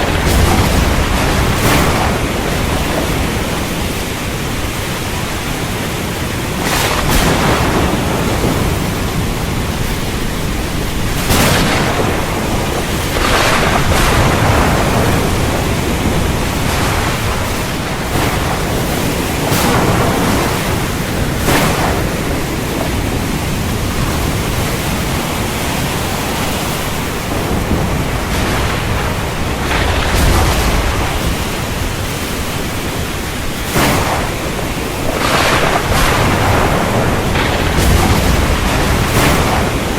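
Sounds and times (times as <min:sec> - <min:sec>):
heavy rain falling: 0:00.0 - 0:39.9
thunder rumbling: 0:00.0 - 0:39.9.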